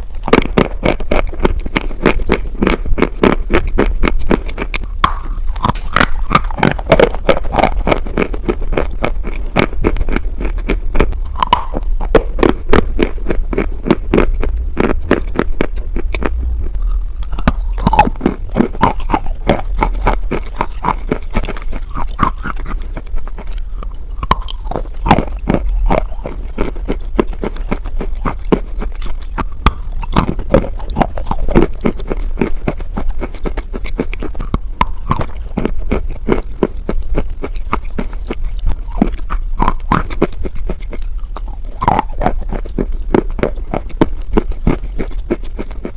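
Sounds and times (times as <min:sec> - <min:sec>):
chalk being chewed crunching: 0:00.0 - 0:45.9.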